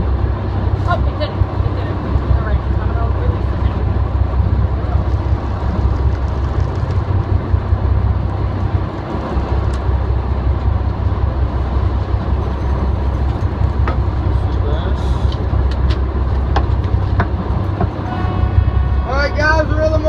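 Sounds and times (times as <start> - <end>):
boat engine rumble: 0.0 - 20.0.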